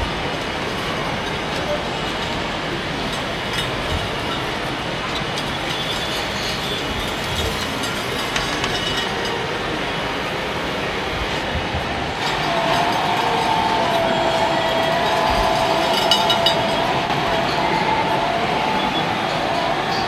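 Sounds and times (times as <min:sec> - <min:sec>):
busy exhibition hall din: 0:00.0 - 0:20.0.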